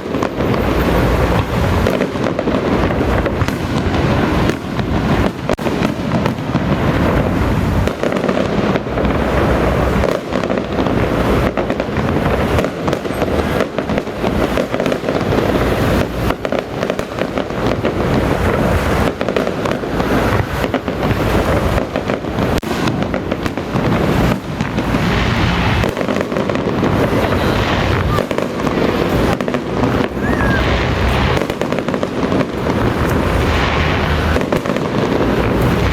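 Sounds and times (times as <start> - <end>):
firecrackers going off: 0.0 - 35.9.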